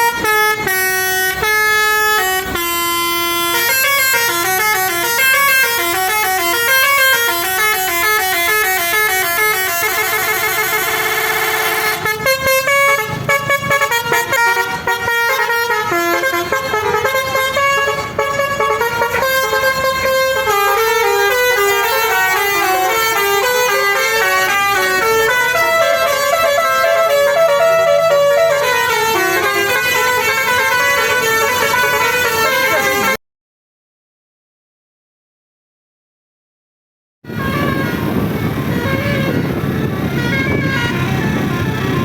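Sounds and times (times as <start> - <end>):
musical air horn playing tune: 0.0 - 33.2, 37.3 - 42.0.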